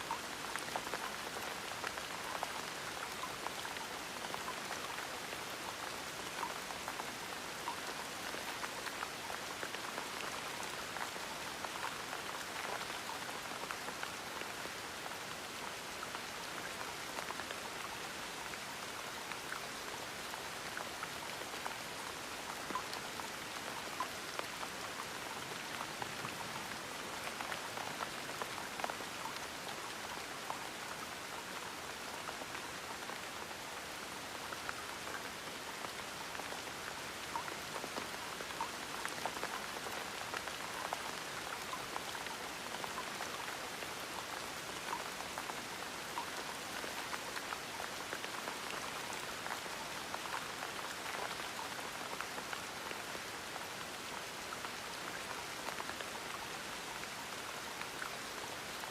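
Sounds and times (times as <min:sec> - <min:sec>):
gentle rain falling: 0:00.0 - 0:58.9
raindrops ticking on a surface: 0:00.0 - 0:58.9.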